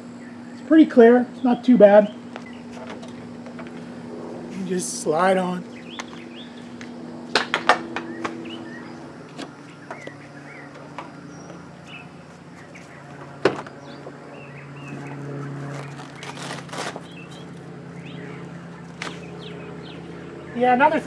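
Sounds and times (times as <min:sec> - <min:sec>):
low vehicle hum: 0:00.0 - 0:21.0
small birds chirping: 0:00.0 - 0:21.0.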